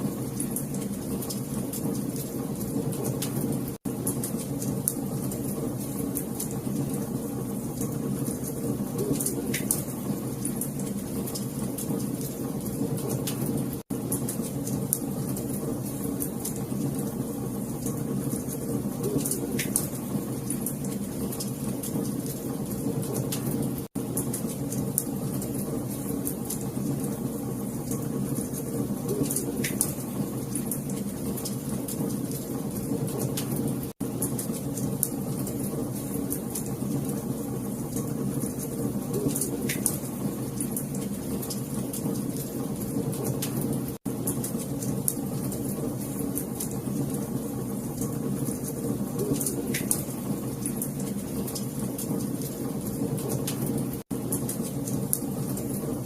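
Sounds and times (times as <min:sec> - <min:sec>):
log fire crackling: 0:00.1 - 0:56.0.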